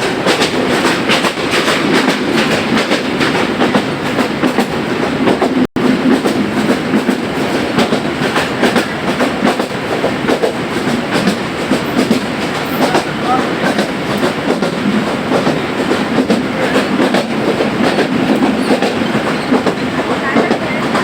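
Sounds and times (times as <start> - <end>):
train wheels clattering: 0.0 - 21.0.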